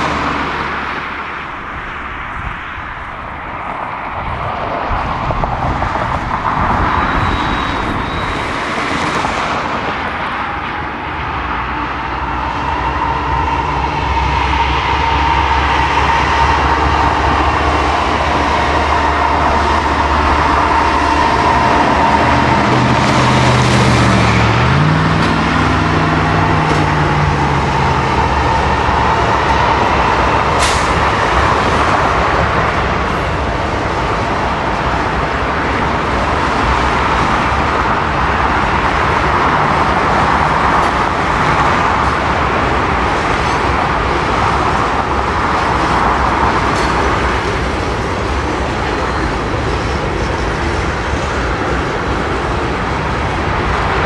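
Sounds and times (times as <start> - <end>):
diesel locomotive engines: 0.0 - 54.0
train cars rumbling past: 0.0 - 54.0.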